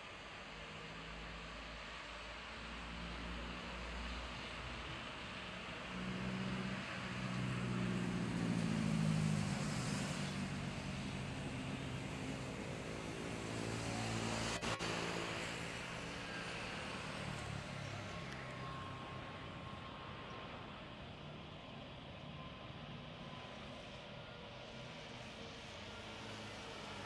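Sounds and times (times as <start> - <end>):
engine rumble and hiss: 0.0 - 27.0.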